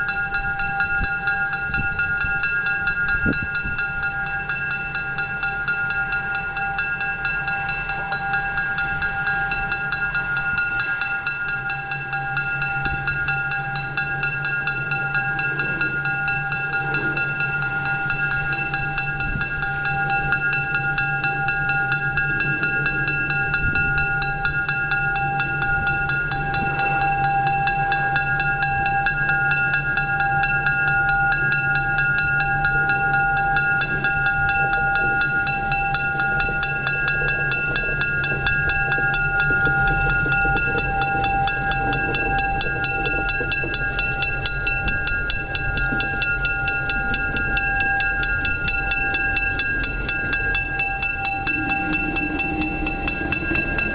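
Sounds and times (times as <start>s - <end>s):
diesel locomotives droning: 0.0s - 53.9s
high whine: 0.0s - 53.9s.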